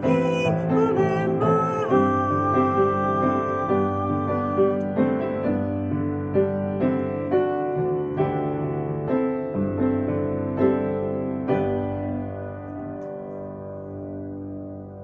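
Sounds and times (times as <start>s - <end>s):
gentle piano: 0.0s - 15.0s.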